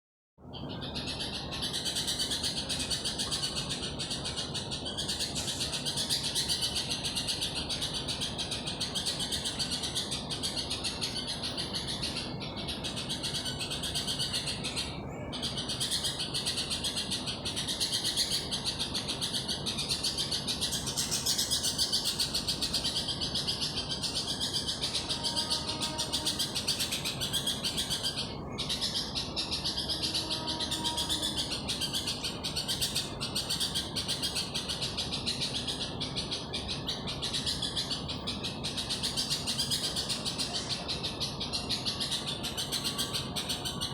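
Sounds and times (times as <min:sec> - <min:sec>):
bird calling at night: 0:00.6 - 0:43.9.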